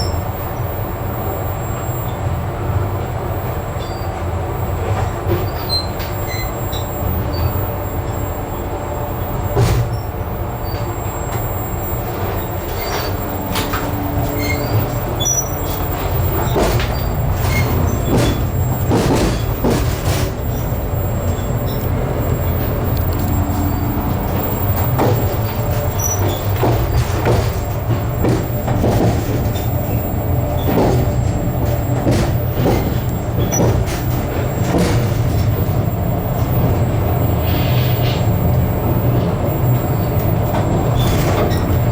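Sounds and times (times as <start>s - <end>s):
train wheels rumbling on rails: 0.0s - 41.9s
train wheels clicking and knocking: 3.0s - 41.9s.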